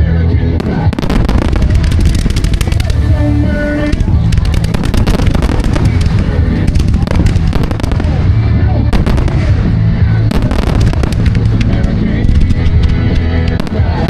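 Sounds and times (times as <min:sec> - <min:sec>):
music with heavy bass: 0:00.0 - 0:14.0
fireworks crackling pops: 0:00.6 - 0:14.0.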